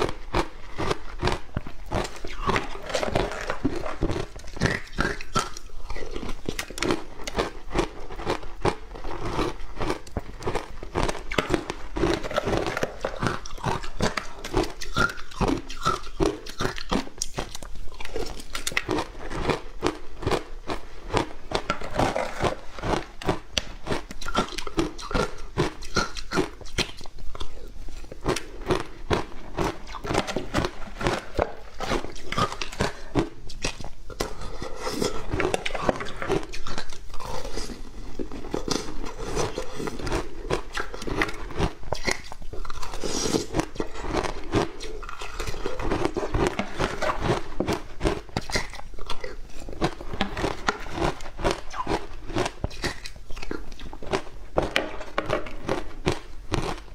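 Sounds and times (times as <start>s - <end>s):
chewing crunchy ice: 0.0s - 56.9s.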